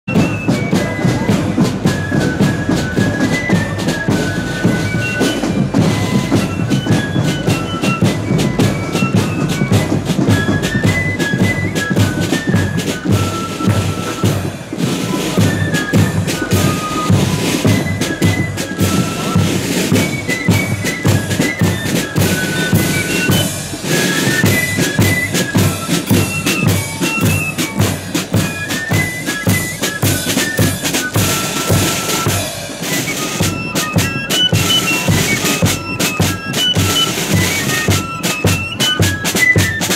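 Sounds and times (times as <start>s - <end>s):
flute melody: 0.1s - 39.9s
snare drums: 0.1s - 39.9s.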